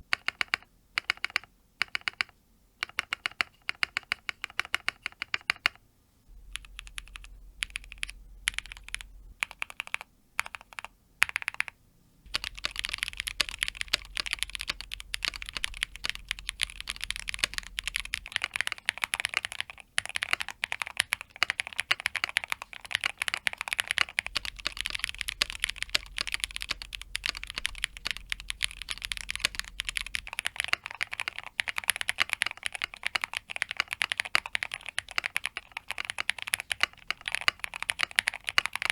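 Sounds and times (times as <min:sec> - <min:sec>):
mechanical keyboard typing: 0:00.0 - 0:05.8, 0:06.5 - 0:38.9.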